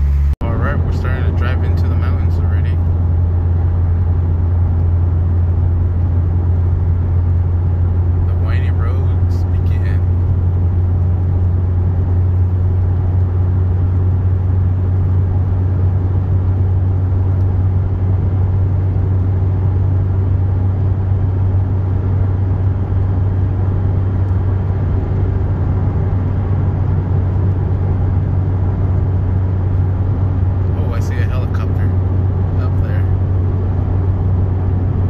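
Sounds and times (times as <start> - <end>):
car engine humming: 0.0 - 35.0
tyre and road noise: 0.0 - 35.0.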